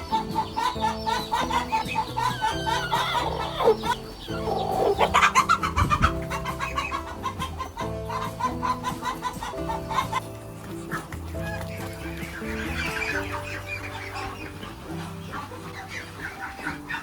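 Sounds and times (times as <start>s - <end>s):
background music with beat: 0.0s - 17.0s
chickens clucking: 0.0s - 17.0s.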